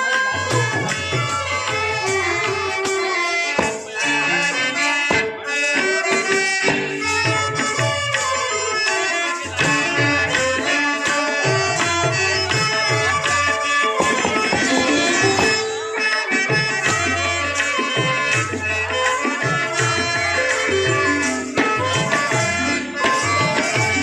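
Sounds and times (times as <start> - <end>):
reedy wind instrument melody: 0.0 - 24.0.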